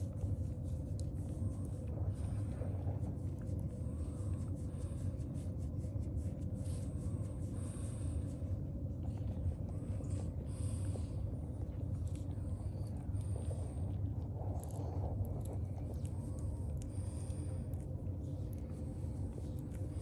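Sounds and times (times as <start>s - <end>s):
low rumble with faint hum: 0.0s - 20.0s
puppies suckling clicks and snuffles: 0.0s - 20.0s.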